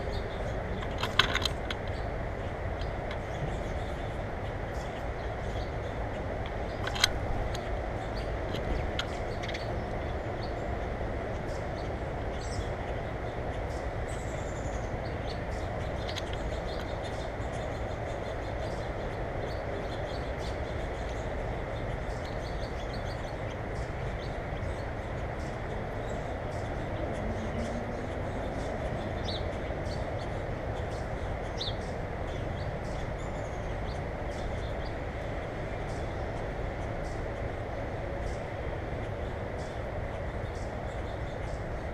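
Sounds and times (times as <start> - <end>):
low rumble with hiss: 0.0 - 41.9.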